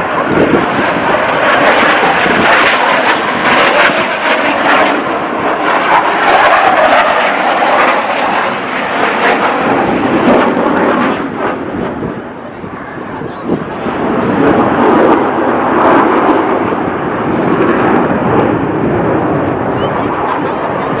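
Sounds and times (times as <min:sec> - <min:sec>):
jet flying past: 0:00.0 - 0:21.0.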